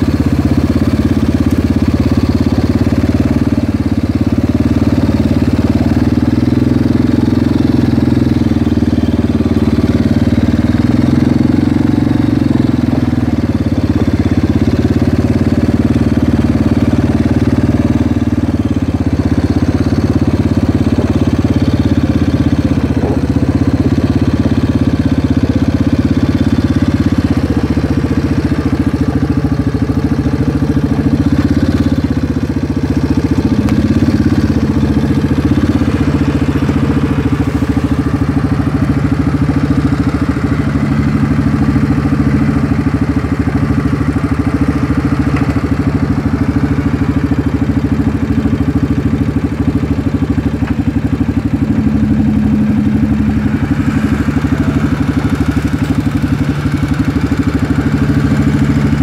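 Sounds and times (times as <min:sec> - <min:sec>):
small engine running steadily: 0:00.0 - 0:59.0.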